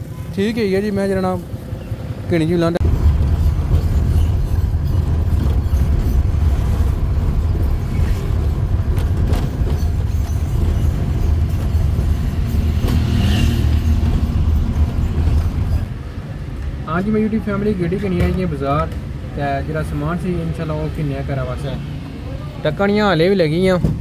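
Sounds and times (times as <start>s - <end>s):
van engine and road rumble: 0.0s - 24.0s.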